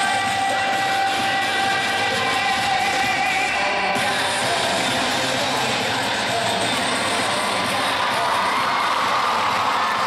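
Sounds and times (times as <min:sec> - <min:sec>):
music over arena loudspeakers: 0:00.0 - 0:10.0.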